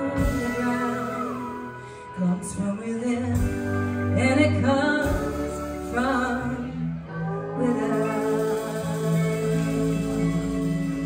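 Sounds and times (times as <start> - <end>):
live band playing: 0.0 - 11.0
woman singing: 0.0 - 11.0.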